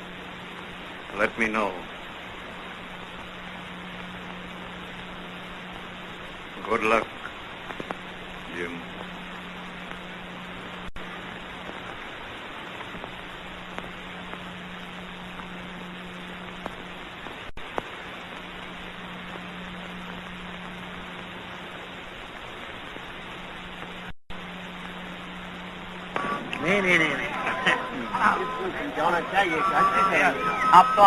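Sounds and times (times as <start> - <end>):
film soundtrack hiss: 0.0 - 31.0
steady low hum: 0.0 - 31.0.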